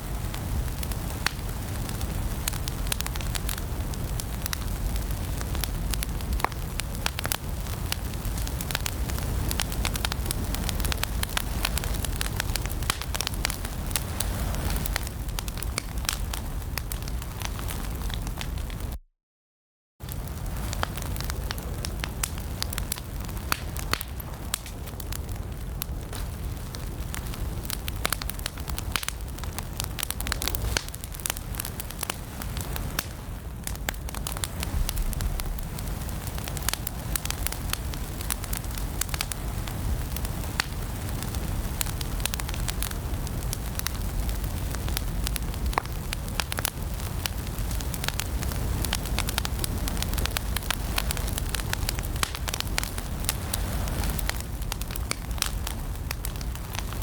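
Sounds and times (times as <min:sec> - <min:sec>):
wood fire crackling: 0:00.0 - 0:19.0, 0:20.0 - 0:57.0.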